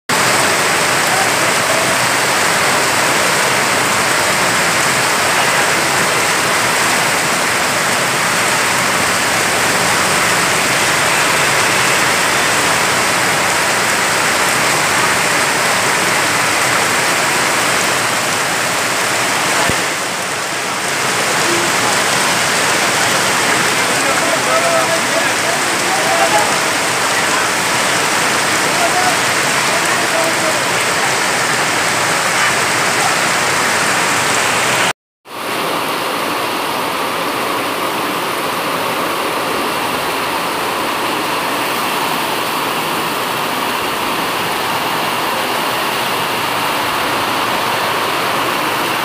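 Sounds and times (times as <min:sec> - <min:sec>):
heavy rain on pavement: 0:00.1 - 0:49.0.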